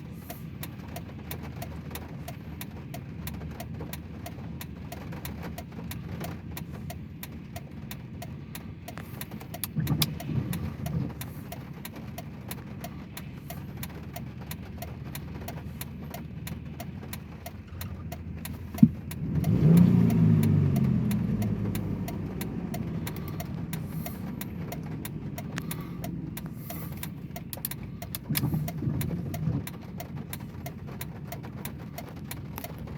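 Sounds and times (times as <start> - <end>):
vehicle engine humming: 0.0 - 32.9.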